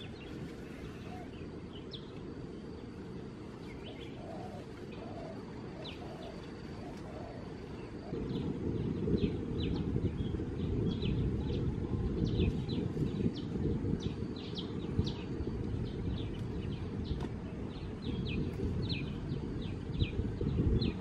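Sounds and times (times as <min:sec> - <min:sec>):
low rumbling noise: 0:00.0 - 0:21.0
small birds chirping: 0:00.0 - 0:21.0.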